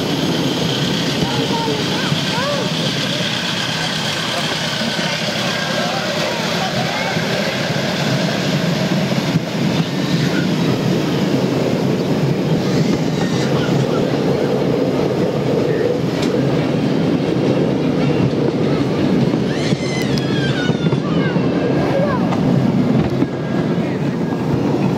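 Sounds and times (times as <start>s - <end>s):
wheels rumbling on rails: 0.0s - 24.9s.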